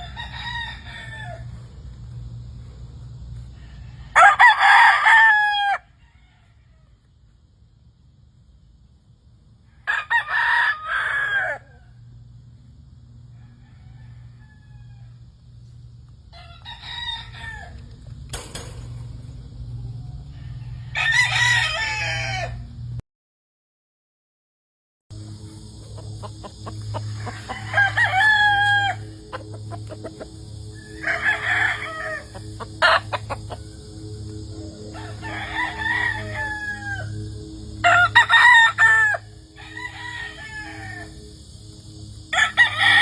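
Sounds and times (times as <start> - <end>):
roosters crowing: 0.0 - 8.1, 9.6 - 23.0, 25.2 - 43.0.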